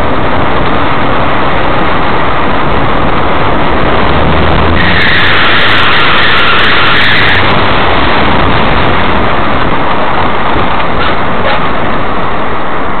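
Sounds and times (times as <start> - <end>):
car engine humming: 0.0 - 13.0
tyre-on-road noise: 0.0 - 13.0
wind rushing: 0.0 - 13.0.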